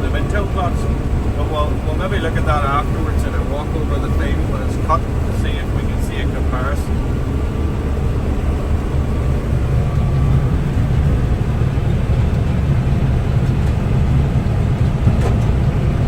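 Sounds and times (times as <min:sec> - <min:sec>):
combine harvester droning: 0:00.0 - 0:16.0.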